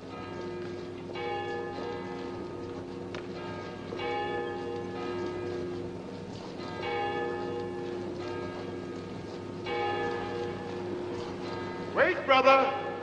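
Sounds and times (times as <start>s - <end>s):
church bell tolling: 0.0s - 13.0s.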